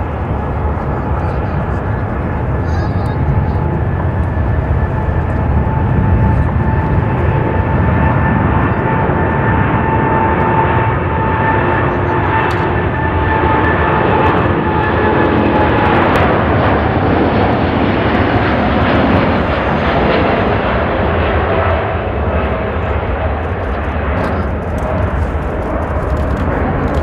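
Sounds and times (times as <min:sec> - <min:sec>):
jet airliner taking off: 0:00.0 - 0:27.0.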